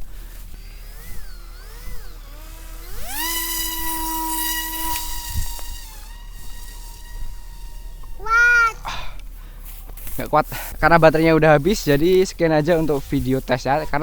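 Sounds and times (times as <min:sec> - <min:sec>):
electric motor and propeller whining: 0:00.0 - 0:10.1, 0:10.7 - 0:14.0.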